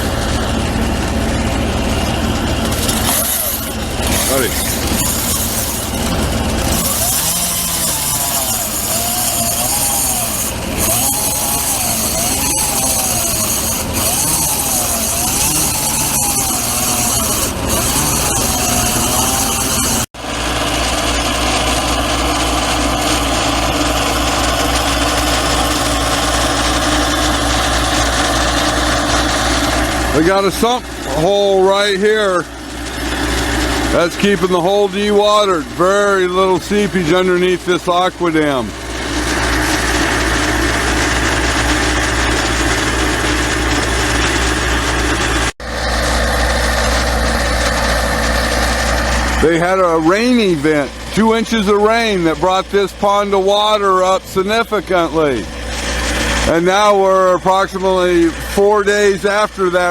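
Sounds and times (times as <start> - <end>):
heavy machinery engine idling: 0.0 - 59.9.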